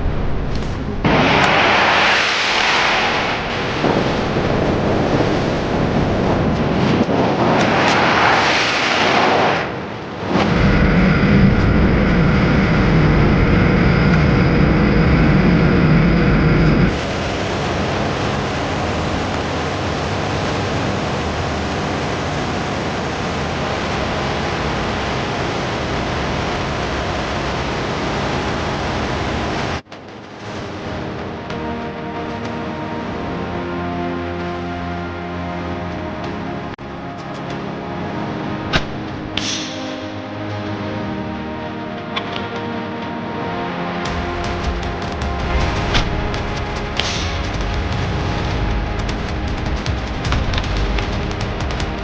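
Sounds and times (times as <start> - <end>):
roar of powerful engines: 0.0 - 29.8, 30.4 - 52.0
music: 10.2 - 52.0.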